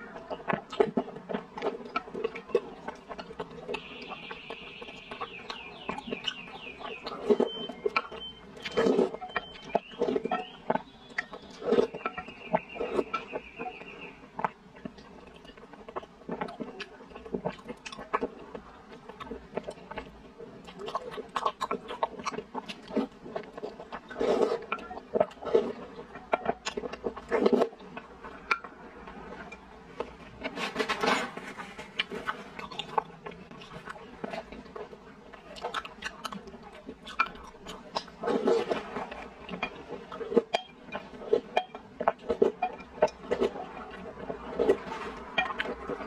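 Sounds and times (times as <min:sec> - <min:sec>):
close-miked chewing: 0:00.0 - 0:46.0.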